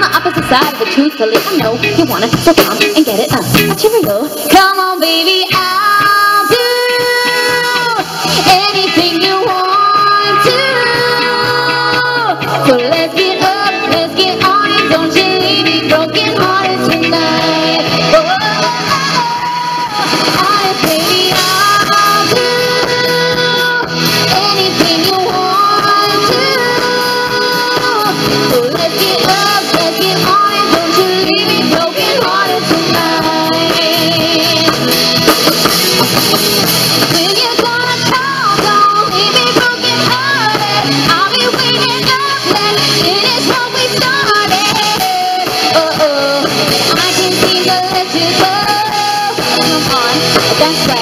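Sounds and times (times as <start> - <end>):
woman singing into a microphone: 0.0 - 35.4, 36.9 - 51.0
pop-rock band playing: 0.0 - 51.0.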